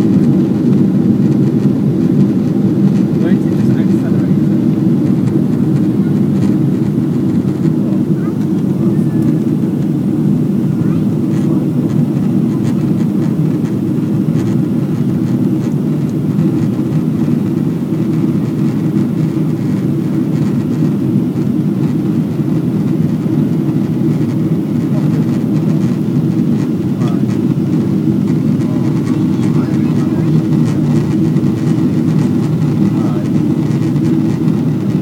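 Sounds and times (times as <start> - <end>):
airplane cabin engine roar: 0.0 - 35.0.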